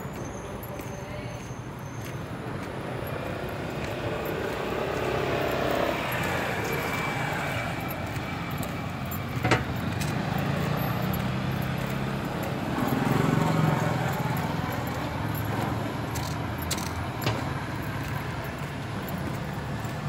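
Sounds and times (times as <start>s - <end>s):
road traffic passing: 0.0s - 20.0s
motor scooter engine: 3.2s - 20.0s.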